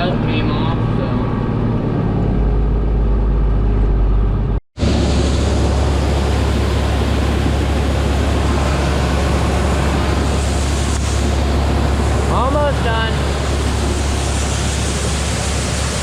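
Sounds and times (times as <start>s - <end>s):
farm machinery engine running: 0.0s - 16.0s
machine with low hum: 0.0s - 16.0s.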